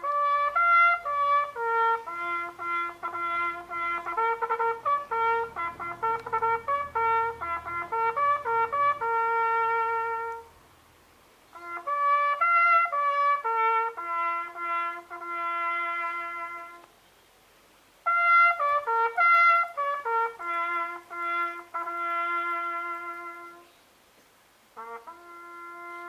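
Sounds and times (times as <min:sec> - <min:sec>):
solo bugle call: 0:00.0 - 0:10.6, 0:11.5 - 0:16.9, 0:18.0 - 0:23.8, 0:24.7 - 0:26.0.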